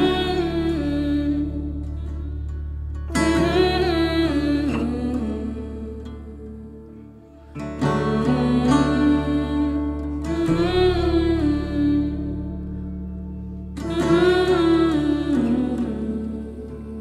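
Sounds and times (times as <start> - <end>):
person singing: 0.0 - 17.0
sustained guitar: 0.0 - 17.0.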